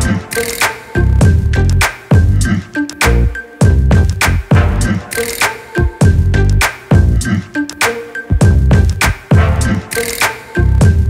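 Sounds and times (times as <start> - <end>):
music with strong bass beat: 0.0 - 11.0.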